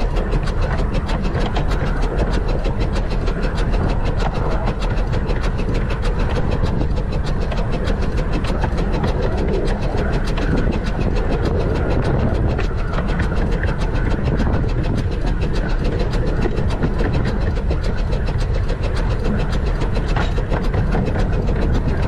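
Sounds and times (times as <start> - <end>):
steam locomotive running: 0.0 - 22.0.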